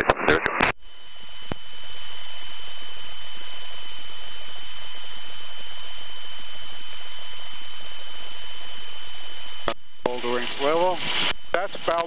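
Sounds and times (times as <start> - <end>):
headset intercom hiss: 0.0 - 12.0
high whine tones: 0.0 - 12.0.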